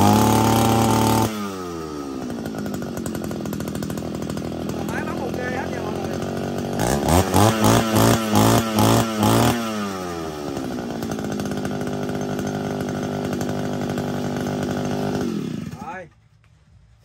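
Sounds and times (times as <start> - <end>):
small petrol engine revving: 0.0 - 16.0.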